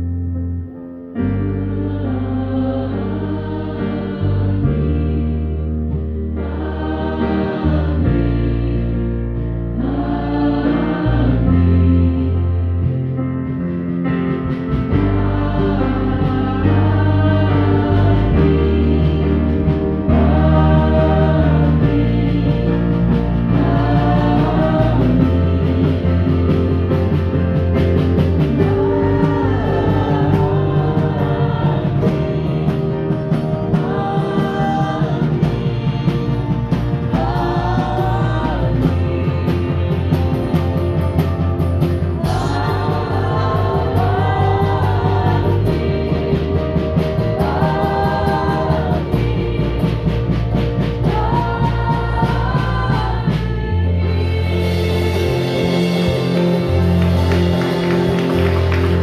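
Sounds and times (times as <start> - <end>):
bass: 0.0 - 59.0
sustained keyboard chords: 0.0 - 59.0
voices singing worship song: 1.1 - 13.0, 14.5 - 59.0.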